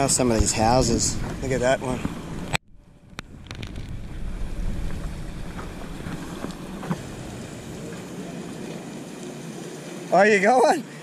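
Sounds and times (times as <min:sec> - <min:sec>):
wind rumbling on microphone: 0:00.0 - 0:09.0
water lapping: 0:00.0 - 0:11.0.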